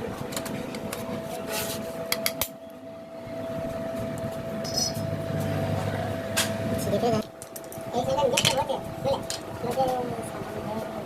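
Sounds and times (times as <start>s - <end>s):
mechanical hum with high tone: 0.0s - 11.0s.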